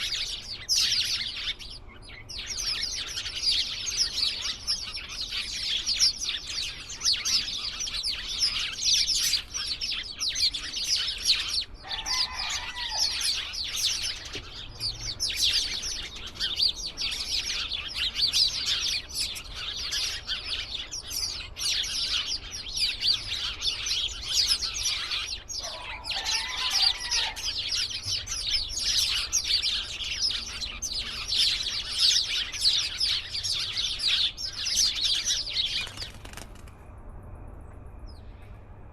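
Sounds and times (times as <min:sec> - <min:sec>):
flock of small birds chirping: 0:00.0 - 0:36.8.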